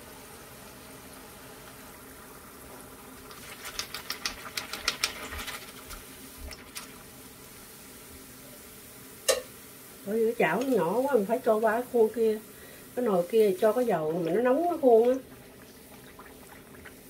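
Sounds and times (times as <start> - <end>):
batter crackling in hot oil: 0.0 - 17.0.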